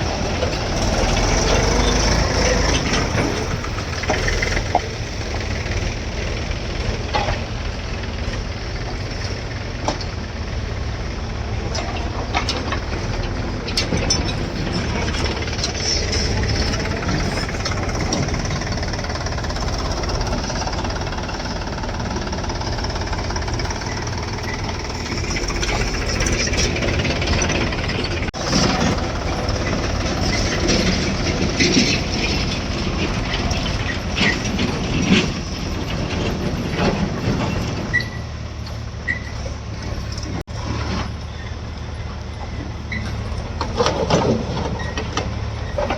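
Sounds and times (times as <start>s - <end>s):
backhoe diesel engine under load: 0.0s - 45.9s.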